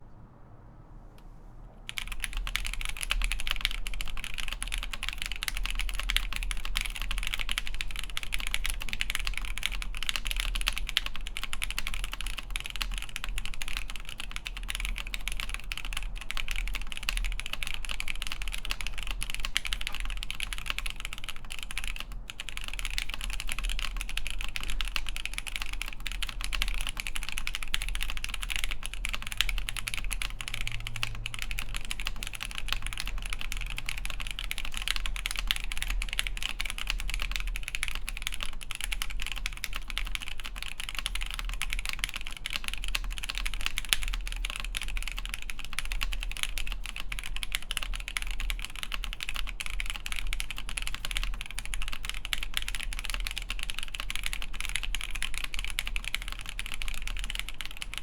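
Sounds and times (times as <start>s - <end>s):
mechanical keyboard typing: 1.9s - 58.0s.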